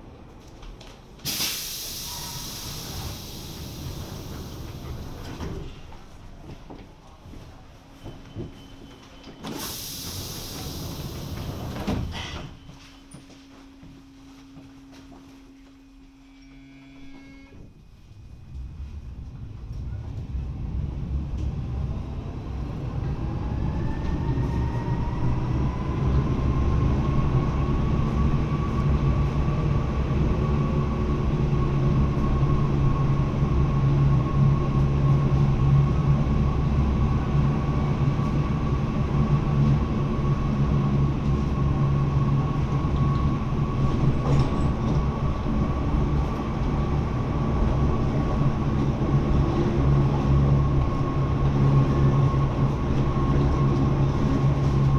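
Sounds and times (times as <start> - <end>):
rack railway car whine: 0.0 - 6.2, 8.0 - 54.9.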